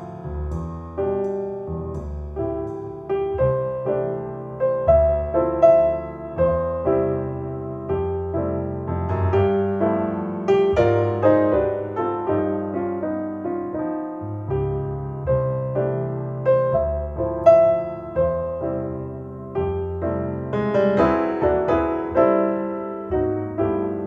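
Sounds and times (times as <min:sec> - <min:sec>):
solo piano music: 0:00.0 - 0:24.0.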